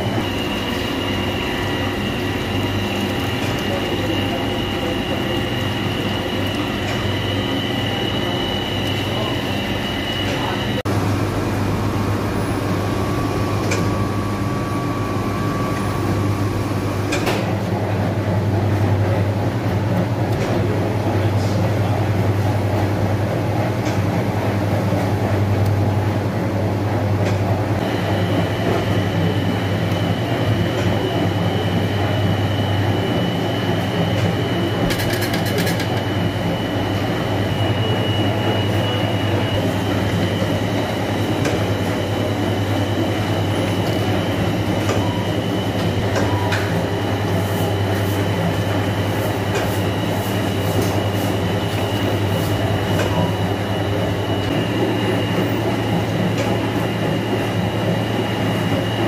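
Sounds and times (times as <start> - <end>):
high whine: 0.0 - 17.2, 27.8 - 59.0
dough machines humming: 0.0 - 59.0.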